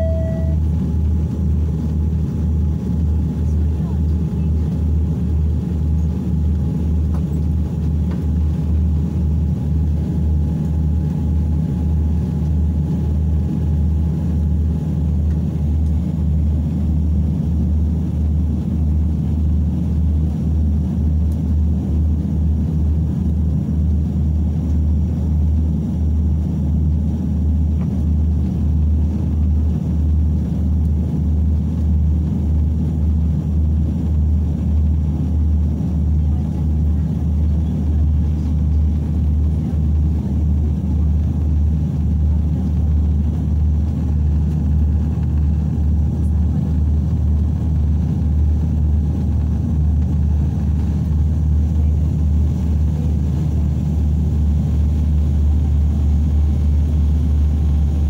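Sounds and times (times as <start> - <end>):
airliner engines droning in cabin: 0.0 - 58.0.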